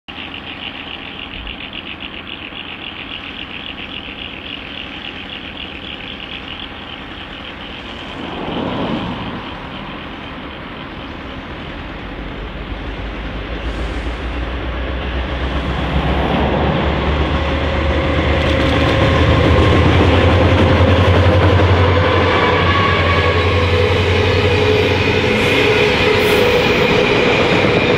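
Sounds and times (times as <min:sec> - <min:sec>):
locomotive engines rumbling: 0:00.1 - 0:27.9.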